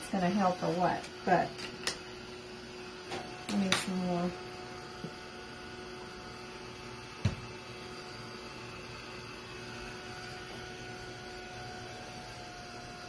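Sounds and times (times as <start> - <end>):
heat gun whirring hum: 0.0 - 13.0.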